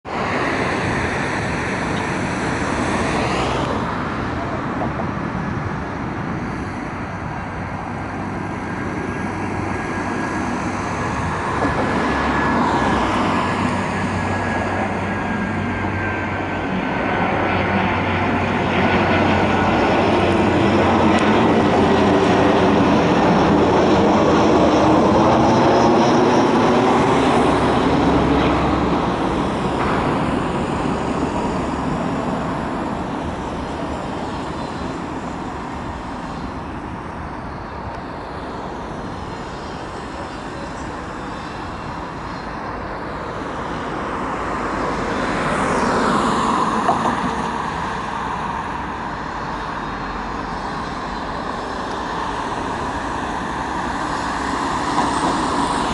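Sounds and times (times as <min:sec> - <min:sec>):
jet airliner approaching: 0:00.0 - 0:55.9.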